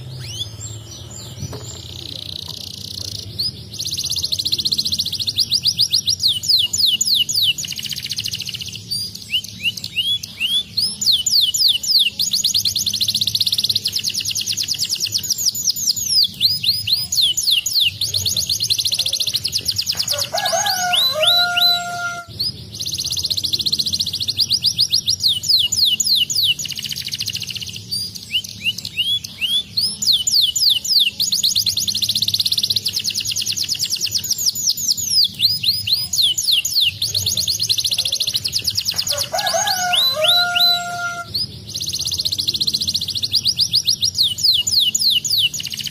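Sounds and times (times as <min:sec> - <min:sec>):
canary singing in fast trills: 0:00.0 - 0:45.9.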